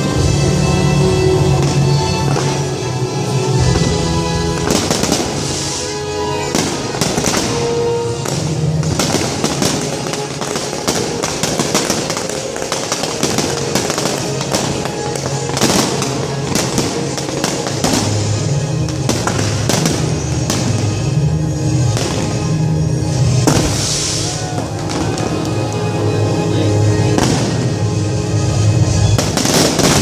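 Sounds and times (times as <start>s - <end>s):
fireworks bursting and crackling: 0.0s - 30.0s
loud show music: 0.0s - 30.0s.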